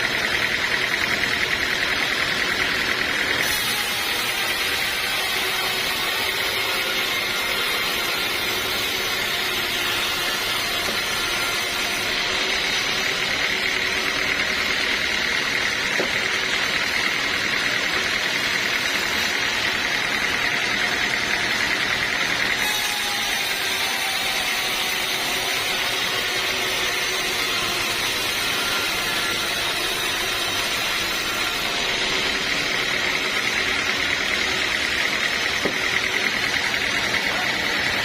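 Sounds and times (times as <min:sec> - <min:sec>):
bandsaw mill sawing wood: 0:00.0 - 0:38.0.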